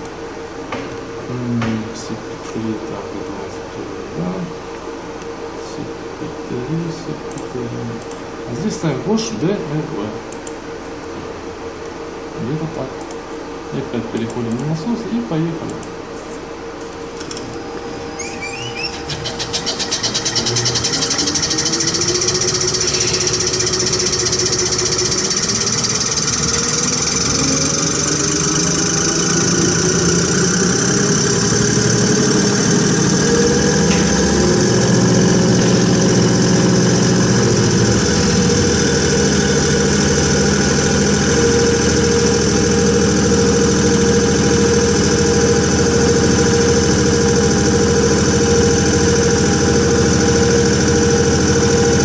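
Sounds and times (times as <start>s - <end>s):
fuel pump mechanical whine: 0.0s - 52.0s.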